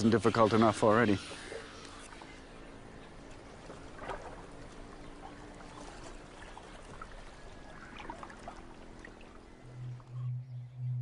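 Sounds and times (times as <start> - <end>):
water lapping and trickling: 0.0 - 10.4.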